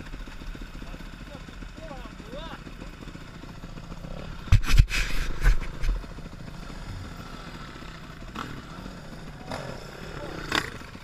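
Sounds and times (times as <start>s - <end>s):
dirt bike engines idling: 0.0s - 11.0s
loud engine thumps and bursts: 0.0s - 11.0s.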